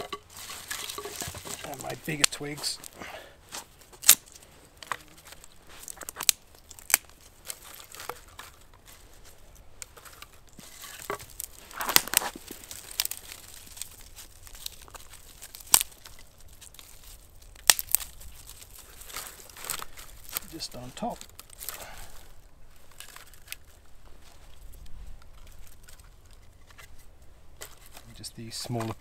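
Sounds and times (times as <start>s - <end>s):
crackly handling of twigs: 0.0s - 29.0s
dry twigs snapping: 0.0s - 29.0s.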